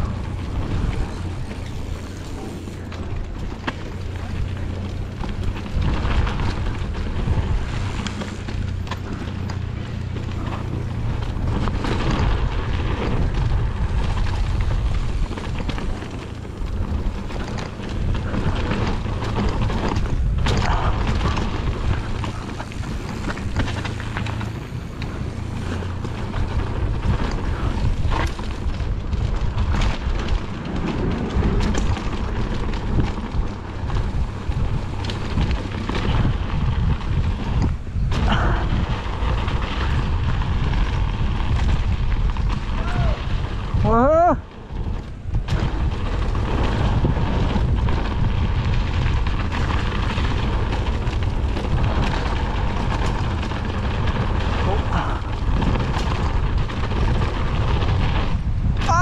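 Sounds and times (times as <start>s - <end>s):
bike clunking and rattling: 0.0s - 59.0s
bike tyres rolling on dirt trail: 0.0s - 59.0s
wind buffeting microphone: 0.0s - 59.0s.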